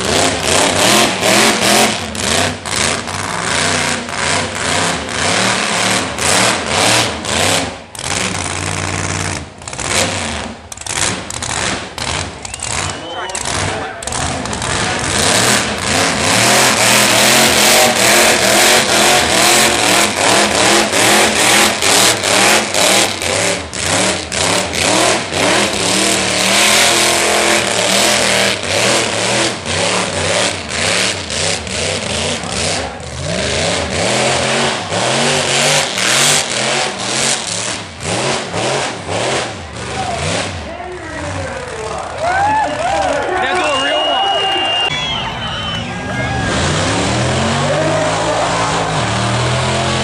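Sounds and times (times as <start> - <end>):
car engine revving: 0.0 - 43.3, 44.8 - 50.0.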